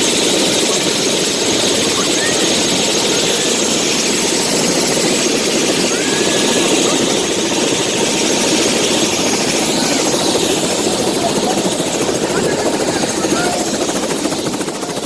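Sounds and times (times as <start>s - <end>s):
helicopter running: 0.0s - 15.0s.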